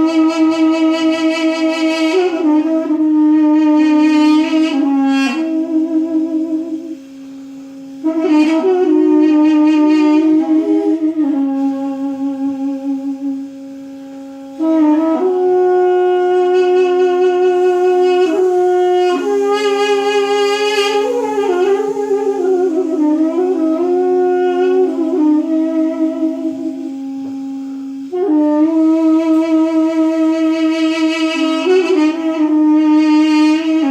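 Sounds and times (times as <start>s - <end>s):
reed pipe drone: 0.0s - 33.9s
reed pipe sliding melody: 0.0s - 33.9s.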